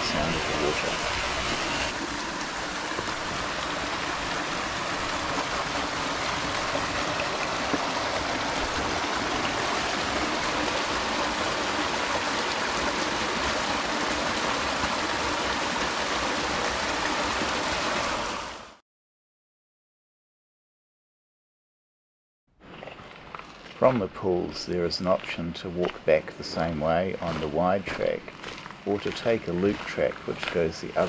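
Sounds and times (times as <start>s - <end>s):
stream rushing over rocks: 0.0s - 18.8s, 23.9s - 31.0s.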